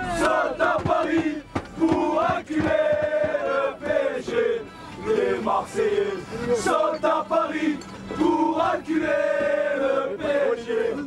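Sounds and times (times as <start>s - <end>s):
crowd chanting in unison: 0.0s - 11.0s.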